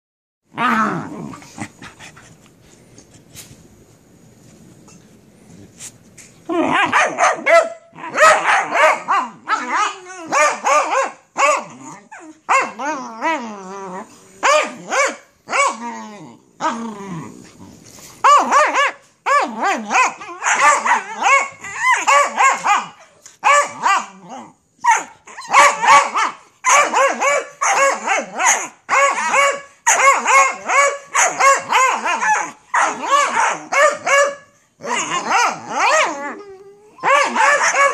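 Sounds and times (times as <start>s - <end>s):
dogs barking and growling: 0.5s - 2.8s, 6.5s - 37.9s.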